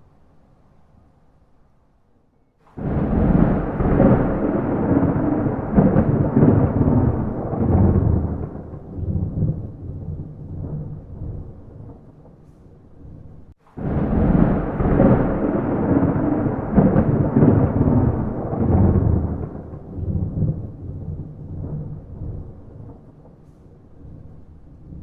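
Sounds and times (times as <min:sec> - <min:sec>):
thunder clap and rumble: 0:02.7 - 0:25.0.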